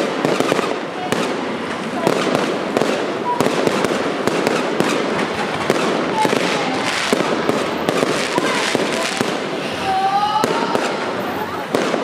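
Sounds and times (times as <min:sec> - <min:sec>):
fireworks cracking and banging: 0:00.0 - 0:12.0
fireworks whistling: 0:00.0 - 0:12.0.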